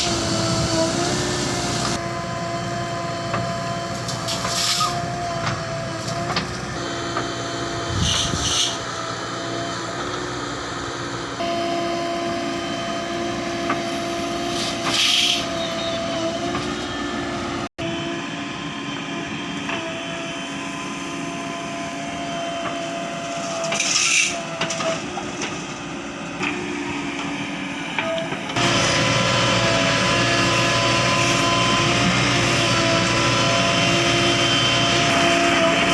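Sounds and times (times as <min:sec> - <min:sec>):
backhoe diesel engine whining: 0:00.0 - 0:35.9.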